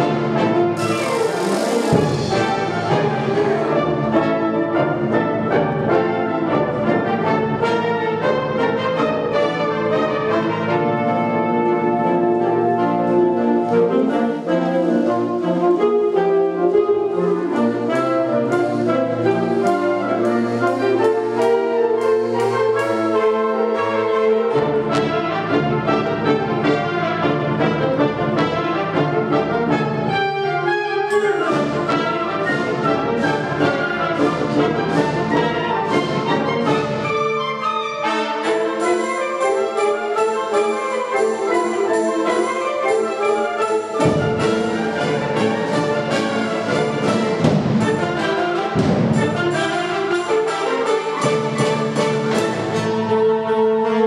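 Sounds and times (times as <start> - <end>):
concert band playing: 0.0 - 54.0.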